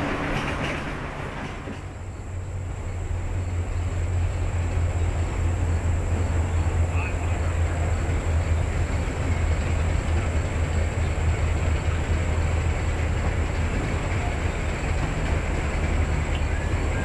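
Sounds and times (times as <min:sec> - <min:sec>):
train running: 0:00.0 - 0:17.0.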